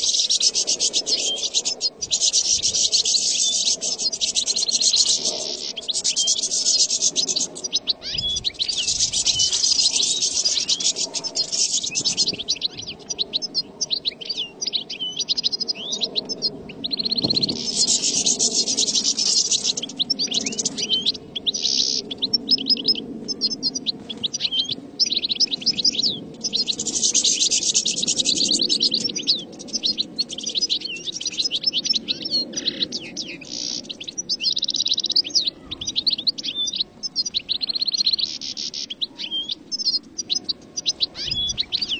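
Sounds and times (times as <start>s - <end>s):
finch twittering song: 0.0s - 41.9s.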